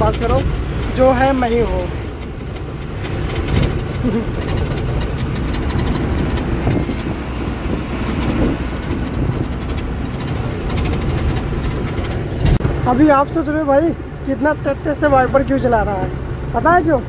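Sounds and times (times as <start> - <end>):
road noise: 0.0 - 17.0
truck diesel engine running: 0.0 - 17.0.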